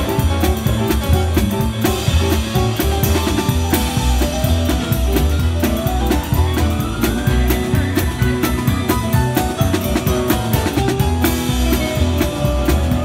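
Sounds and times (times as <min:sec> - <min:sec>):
drum kit beat: 0:00.0 - 0:13.0
heavy bass line: 0:00.0 - 0:13.0
live rock band playing: 0:00.0 - 0:13.0.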